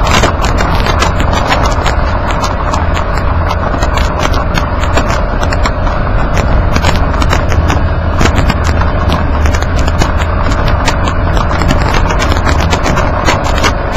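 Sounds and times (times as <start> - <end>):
road rumble and tyre noise: 0.0 - 13.9
stones clicking against underside: 0.0 - 13.9.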